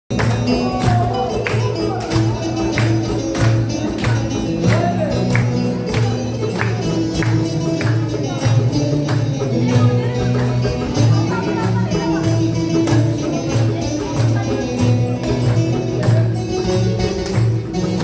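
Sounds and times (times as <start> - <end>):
folk music with lute and drums: 0.1 - 18.0.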